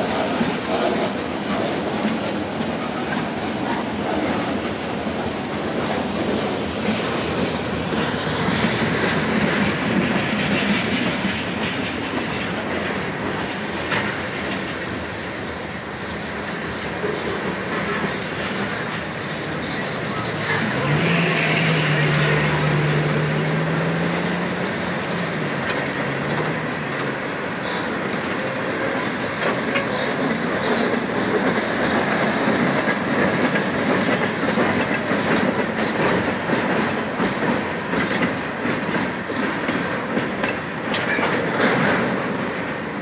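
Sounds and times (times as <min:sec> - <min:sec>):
train wheels rumbling on rail: 0:00.0 - 0:43.0
wheels clickety-clack: 0:00.0 - 0:43.0.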